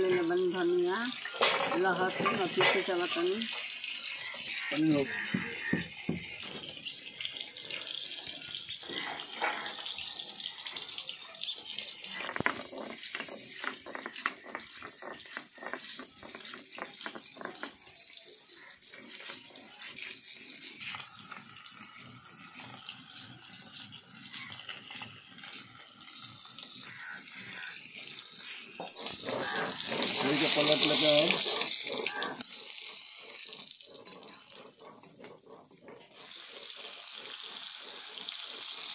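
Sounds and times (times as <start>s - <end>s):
fish frying in oil: 0.0s - 38.9s
stone roller scraping on stone: 0.0s - 38.9s.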